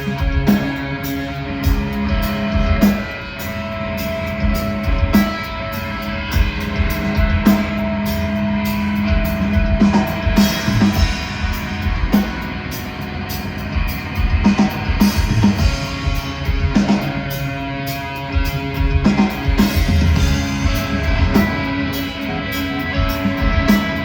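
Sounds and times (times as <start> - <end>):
distorted electric guitars: 0.0 - 24.0
drum kit with cymbal and snare: 0.0 - 24.0.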